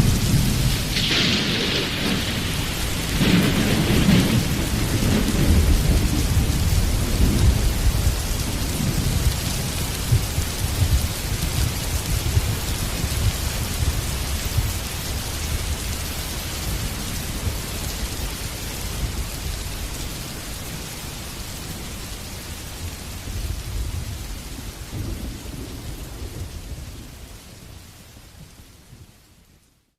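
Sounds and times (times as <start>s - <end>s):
low rumbling thunder: 0.0s - 20.2s, 22.0s - 27.6s
heavy rain pouring: 0.0s - 29.9s.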